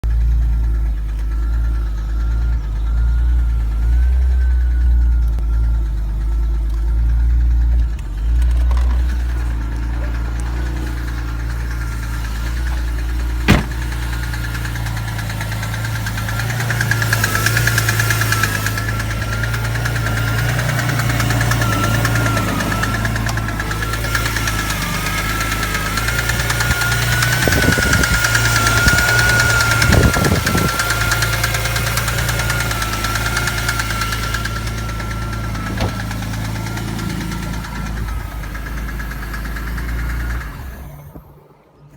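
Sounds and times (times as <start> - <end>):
engine knocking: 0.0 - 41.4.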